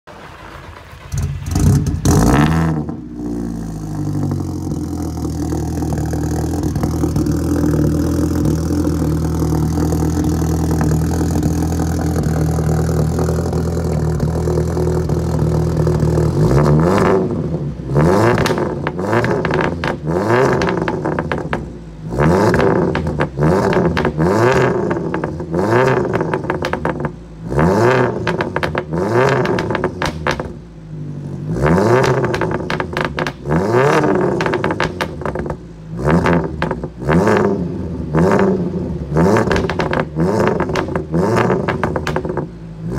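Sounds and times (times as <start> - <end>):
exhaust crackles and pops: 0.0 - 30.8, 31.4 - 42.9
car engine revving: 0.1 - 42.9.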